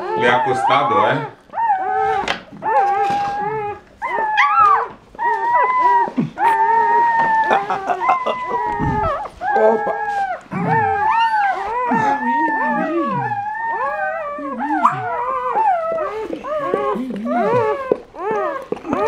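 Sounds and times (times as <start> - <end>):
puppies squealing: 0.0 - 19.0.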